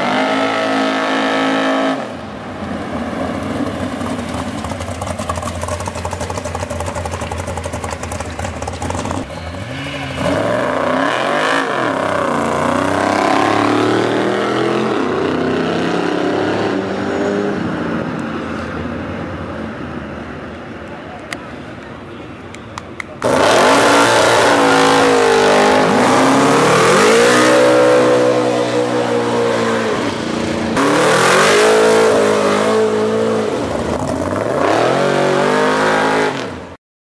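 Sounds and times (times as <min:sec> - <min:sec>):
racing car engines revving: 0:00.0 - 0:20.8, 0:23.1 - 0:36.8.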